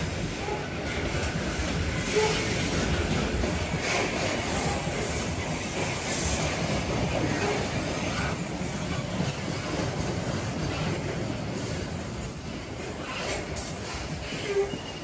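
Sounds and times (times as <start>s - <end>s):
freight train wagons rumbling: 0.0s - 15.0s.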